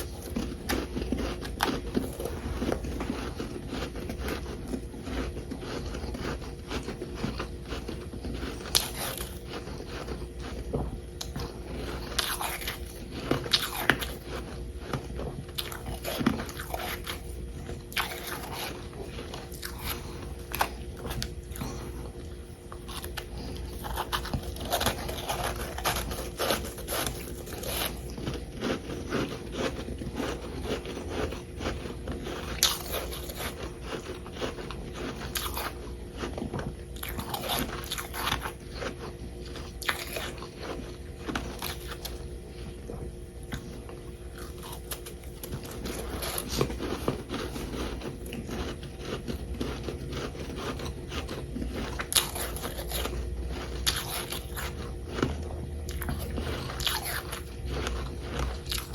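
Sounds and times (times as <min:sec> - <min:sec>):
chewing crunchy frost: 0:00.0 - 0:58.9.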